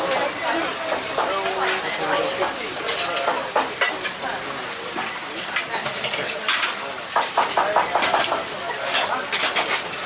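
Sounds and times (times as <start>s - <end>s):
metal pans and utensils clinking: 0.0s - 10.0s
sauce sizzling in a frying pan: 0.0s - 10.0s.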